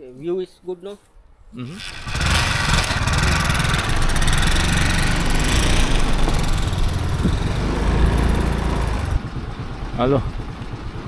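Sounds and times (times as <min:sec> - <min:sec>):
motorbike engine running: 0:01.8 - 0:11.0.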